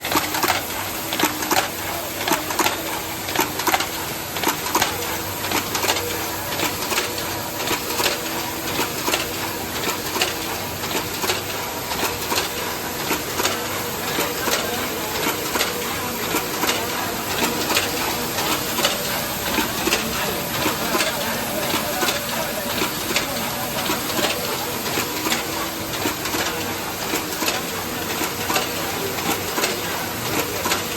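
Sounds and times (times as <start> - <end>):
welding machine clicking and clacking: 0.0 - 30.9.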